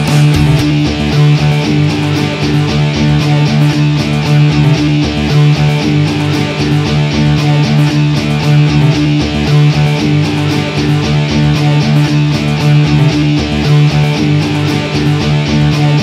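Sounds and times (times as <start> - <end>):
strummed guitar music: 0.0 - 16.0.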